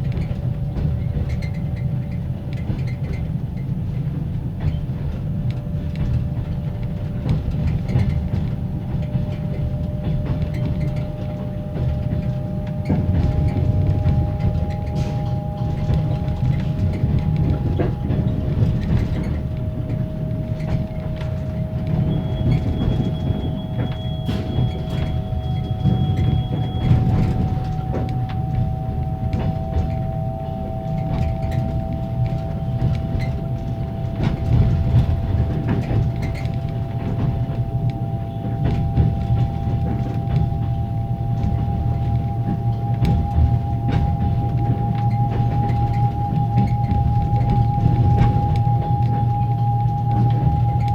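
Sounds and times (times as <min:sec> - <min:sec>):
train wheels clattering on rails: 0:00.0 - 0:50.9
generator whining: 0:04.9 - 0:50.9.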